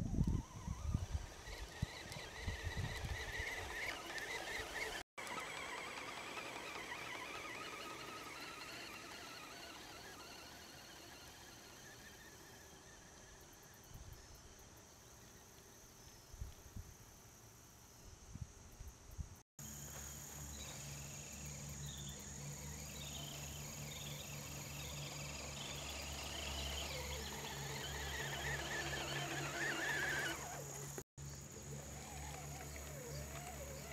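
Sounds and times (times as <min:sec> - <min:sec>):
toy truck electric motor humming: 0:00.1 - 0:13.9, 0:19.6 - 0:33.9
insects chirping: 0:00.4 - 0:33.9.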